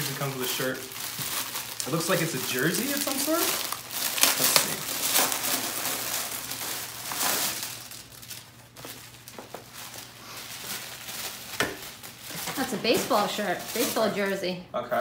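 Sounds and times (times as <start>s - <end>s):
plastic bag crinkling: 0.0s - 14.4s.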